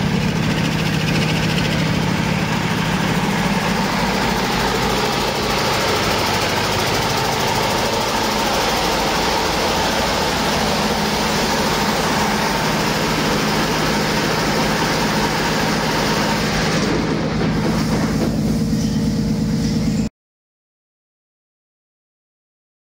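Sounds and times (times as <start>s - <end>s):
diesel engine running: 0.0s - 20.1s.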